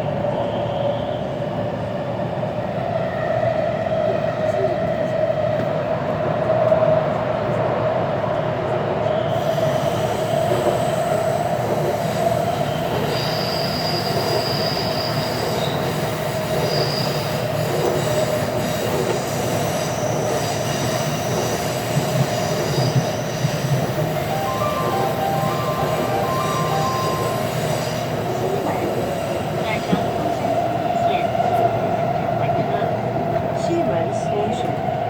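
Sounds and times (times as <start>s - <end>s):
train rumble and hum: 0.0s - 35.0s.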